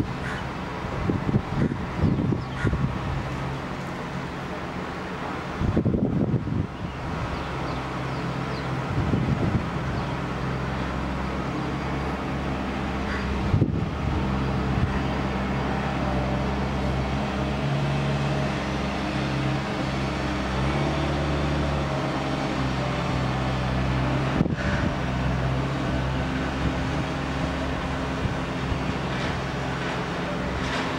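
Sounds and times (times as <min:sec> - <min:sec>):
broad wash of noise: 0:00.0 - 0:30.9
low engine hum: 0:00.0 - 0:30.9.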